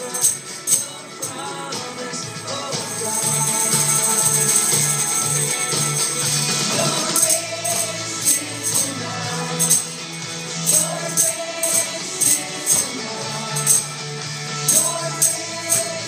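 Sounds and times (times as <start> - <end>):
tambourines jingling: 0.0 - 16.0
upbeat worship song singing: 0.0 - 16.0.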